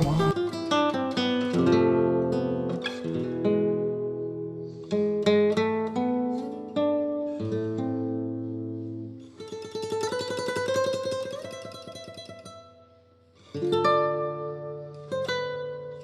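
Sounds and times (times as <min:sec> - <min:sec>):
plucked string instrument: 0:00.0 - 0:16.0.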